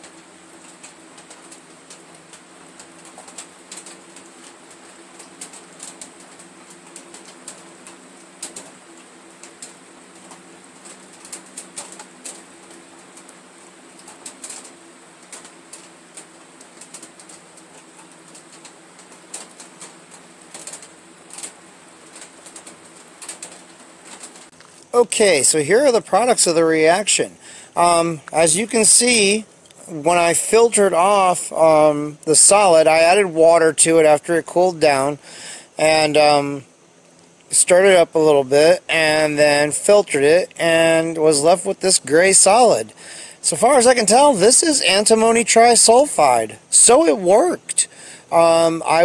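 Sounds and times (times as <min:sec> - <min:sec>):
boiling liquid popping and crackling: 0:00.0 - 0:49.0.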